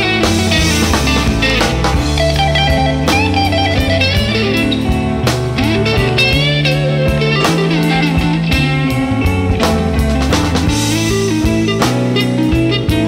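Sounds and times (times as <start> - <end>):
rock song with electric guitar: 0.0 - 13.0
steady drum beat: 0.0 - 13.0.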